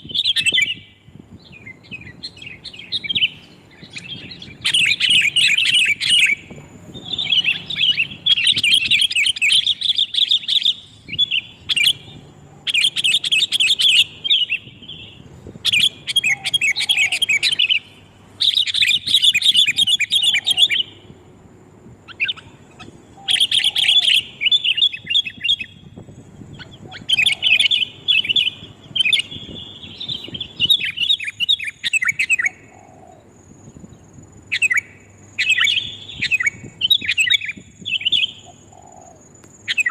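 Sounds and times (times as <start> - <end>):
bulbuls chattering calls: 1.8 - 21.2, 22.0 - 33.4, 34.5 - 39.9.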